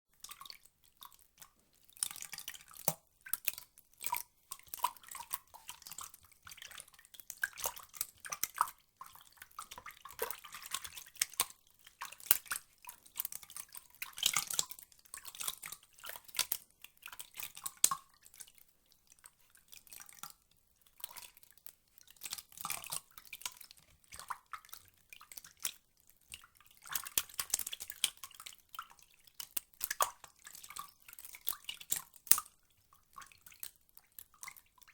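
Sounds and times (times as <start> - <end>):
water dripping and splashing: 0.1 - 34.9.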